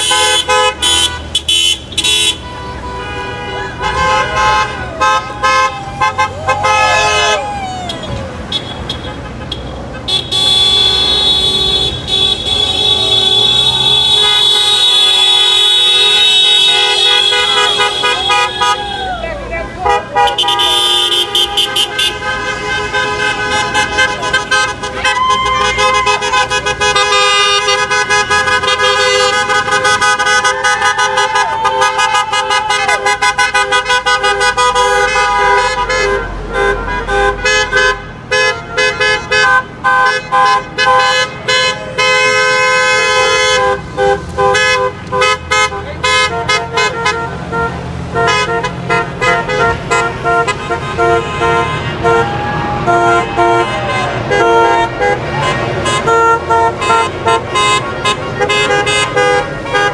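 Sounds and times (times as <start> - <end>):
car horns honking: 0.0 - 59.9.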